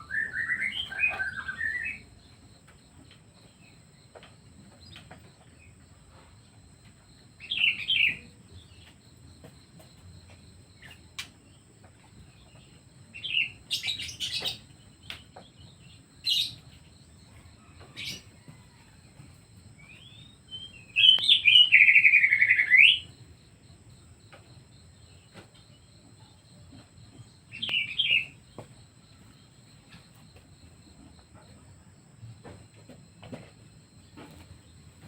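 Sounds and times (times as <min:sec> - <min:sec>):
songbirds chirping: 0:00.0 - 0:35.0.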